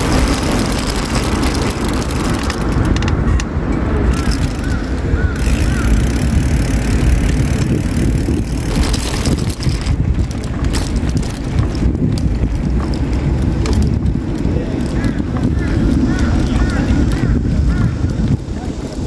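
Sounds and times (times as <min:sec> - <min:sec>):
bicycle clicks and rattles: 0:00.0 - 0:19.0
bicycle tyre road noise: 0:00.0 - 0:19.0
wind rumble on microphone: 0:00.0 - 0:19.0.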